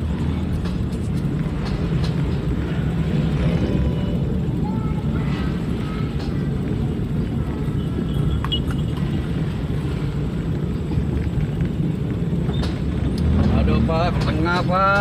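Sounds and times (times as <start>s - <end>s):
minibus engine and road rumble: 0.0s - 15.0s.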